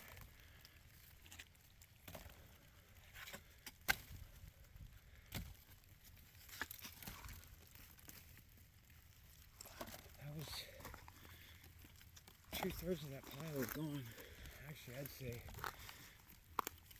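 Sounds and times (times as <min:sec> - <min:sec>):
rustling: 0:00.0 - 0:16.9.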